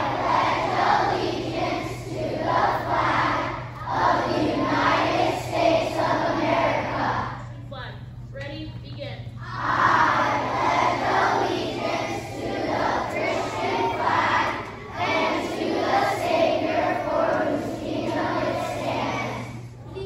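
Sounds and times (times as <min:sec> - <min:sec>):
children reciting in unison: 0:00.0 - 0:07.5, 0:09.4 - 0:20.0.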